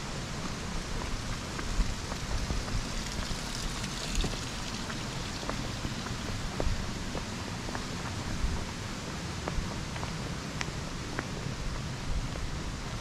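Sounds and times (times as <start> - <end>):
steady hiss: 0.0 - 13.0
wind rumble on microphone: 0.0 - 13.0
footsteps on wet asphalt: 0.3 - 12.5.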